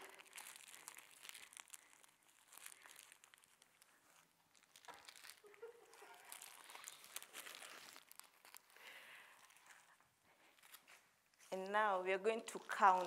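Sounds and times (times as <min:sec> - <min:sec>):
cloth rustling and crinkling: 0:00.0 - 0:13.0.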